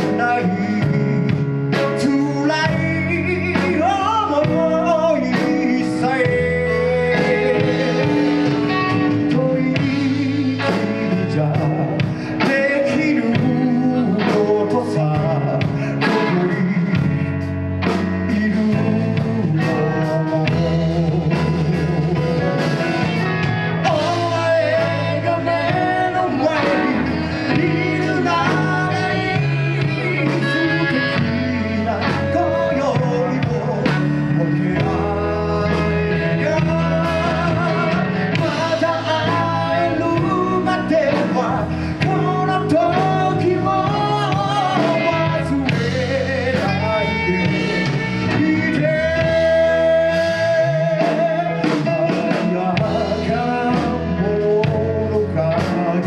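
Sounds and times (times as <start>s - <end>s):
lead vocal singing: 0.0s - 56.0s
live band playing a ballad: 0.0s - 56.0s.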